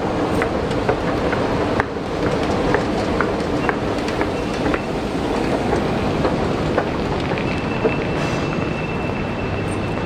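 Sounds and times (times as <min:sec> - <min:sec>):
rumbling background noise: 0:00.0 - 0:10.0.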